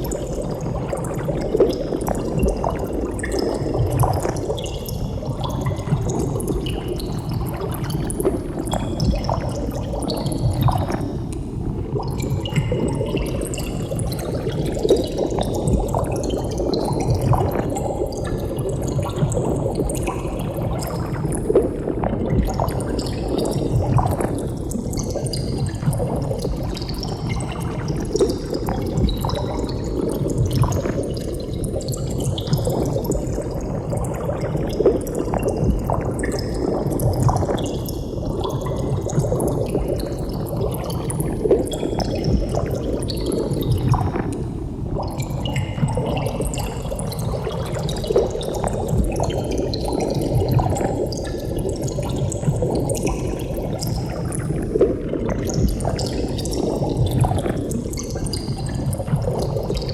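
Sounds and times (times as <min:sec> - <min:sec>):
bubbling water: 0:00.0 - 0:59.9.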